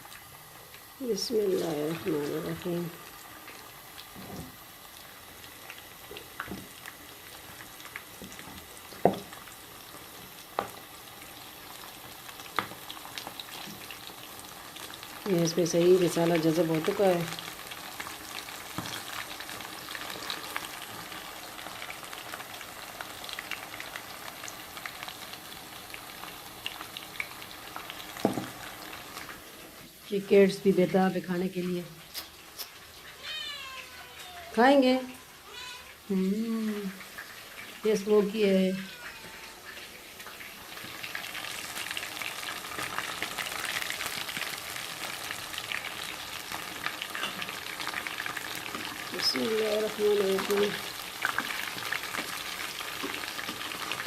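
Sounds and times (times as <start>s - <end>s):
oil crackles and pops: 0.0s - 30.0s, 32.0s - 38.0s, 38.6s - 54.0s
chicken sizzling in hot oil: 0.0s - 54.0s.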